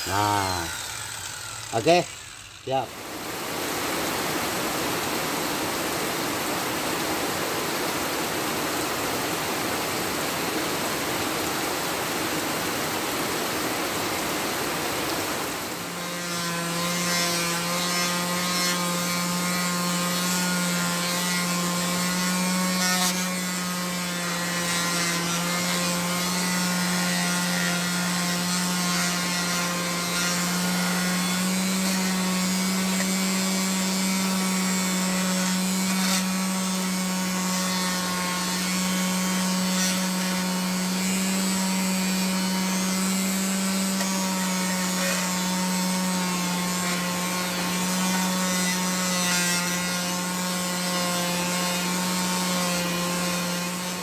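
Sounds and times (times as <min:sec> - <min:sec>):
electric palm sander humming: 0:00.0 - 0:54.0.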